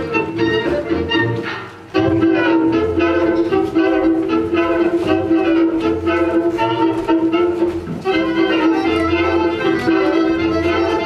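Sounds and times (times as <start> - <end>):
instrumental waltz music: 0.0 - 11.0.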